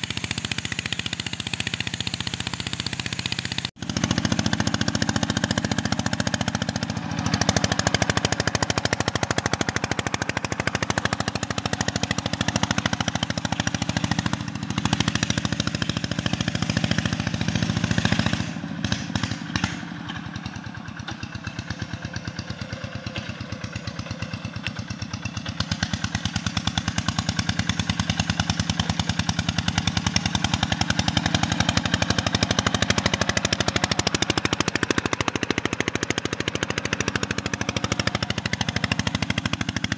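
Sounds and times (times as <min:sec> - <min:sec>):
diesel engine exhaust popping: 0:00.0 - 0:39.9.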